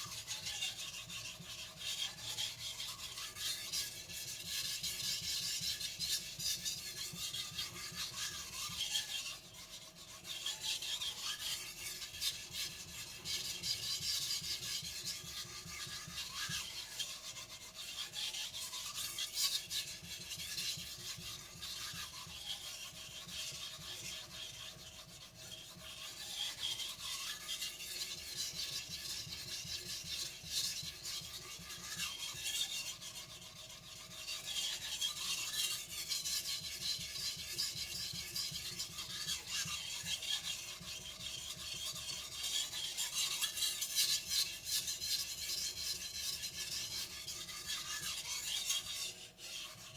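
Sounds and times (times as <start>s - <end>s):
knife scraping on whetstone: 0.0s - 49.9s.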